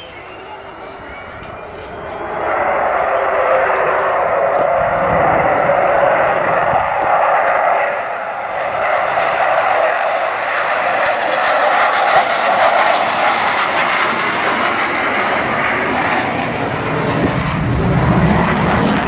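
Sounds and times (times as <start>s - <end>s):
jet aircraft flying past: 0.0s - 19.0s.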